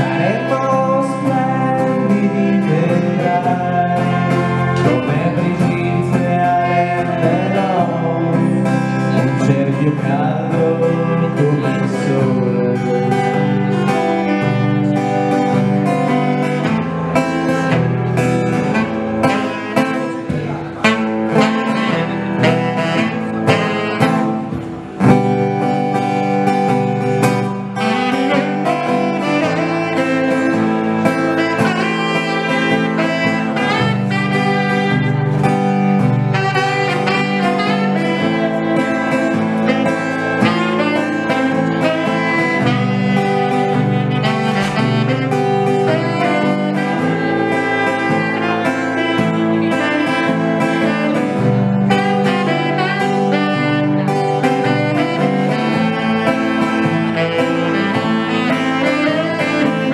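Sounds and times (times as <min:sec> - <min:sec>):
acoustic guitar accompaniment: 0:00.0 - 0:59.9
tenor saxophone melody: 0:00.0 - 0:59.9.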